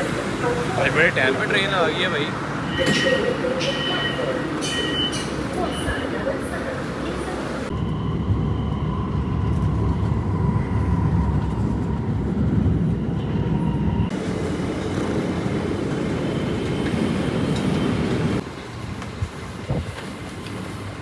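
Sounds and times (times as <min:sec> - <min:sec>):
metro train rumble: 0:00.0 - 0:21.0.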